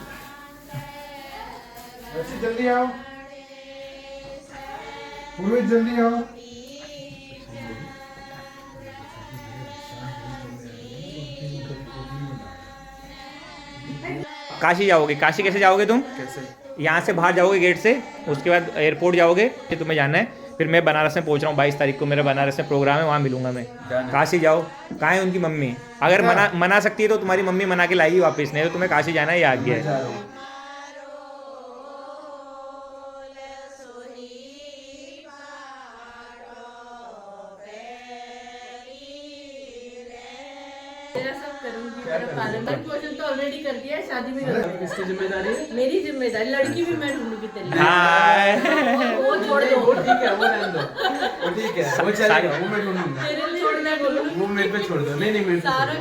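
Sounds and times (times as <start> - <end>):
group singing devotional song: 0.0 - 56.0.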